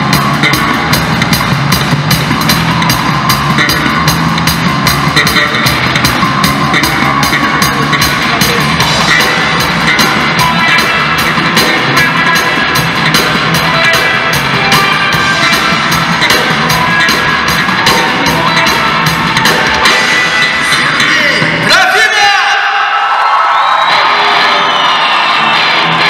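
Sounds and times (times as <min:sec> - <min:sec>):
electric guitar: 0:00.0 - 0:21.7, 0:23.8 - 0:26.0
drum kit steady beat: 0:00.0 - 0:21.8.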